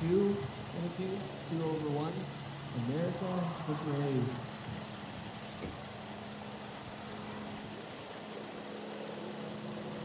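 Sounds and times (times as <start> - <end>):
constant hiss: 0.0 - 10.0
engine idling: 0.0 - 10.0.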